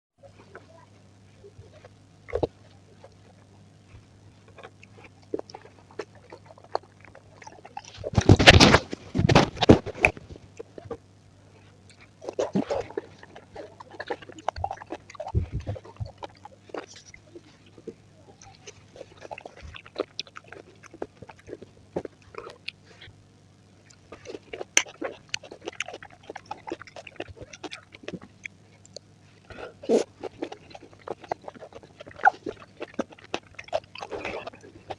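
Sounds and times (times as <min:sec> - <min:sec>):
crunching and chewing fruit: 0:00.3 - 0:34.9.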